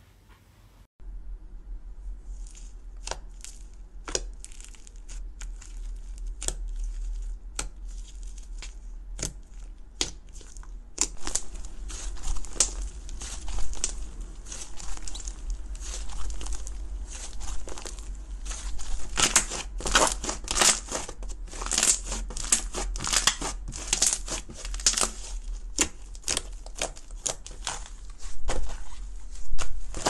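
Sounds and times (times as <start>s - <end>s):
slime crackling and crunching: 2.3s - 30.0s.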